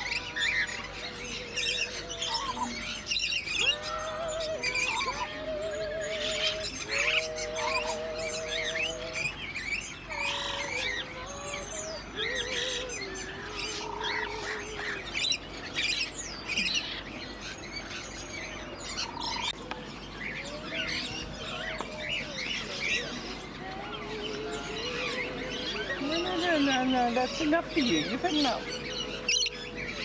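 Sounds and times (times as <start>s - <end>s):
birds chirping and squawking: 0.0s - 30.0s.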